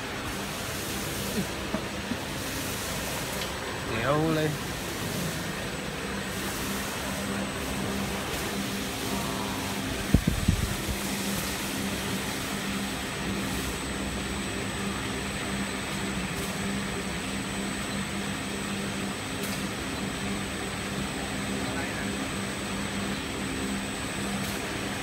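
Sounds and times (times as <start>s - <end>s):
factory machinery humming: 0.0s - 25.0s.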